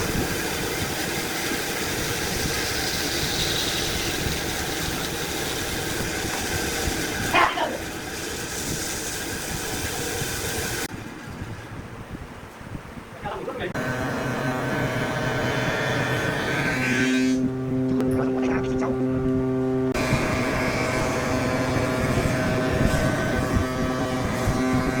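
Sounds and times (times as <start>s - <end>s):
woodworking machine running: 0.0s - 10.9s, 13.8s - 18.2s, 19.9s - 25.0s.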